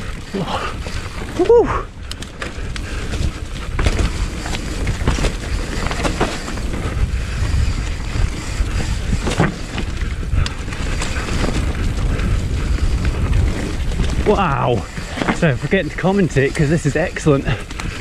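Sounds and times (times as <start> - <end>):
bike knocks and rattles: 0.0 - 18.0
bike tyres rumbling: 0.0 - 18.0
wind roaring on camera: 0.0 - 18.0.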